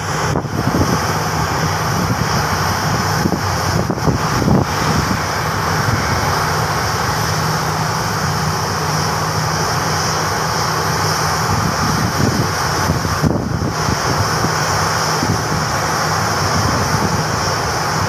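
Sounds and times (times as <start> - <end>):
jet engines running at low power: 0.0 - 18.0.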